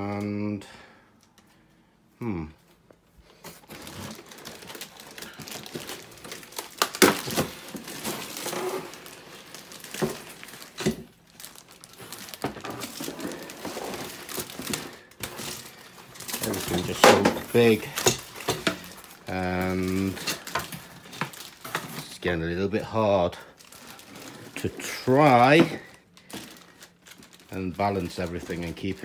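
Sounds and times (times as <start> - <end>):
plastic bags crinkling: 3.2 - 29.0.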